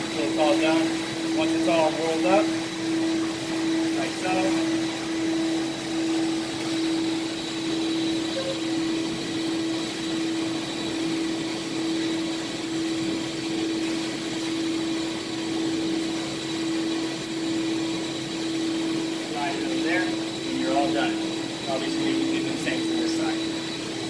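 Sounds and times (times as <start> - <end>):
electric air blower humming: 0.0 - 24.0.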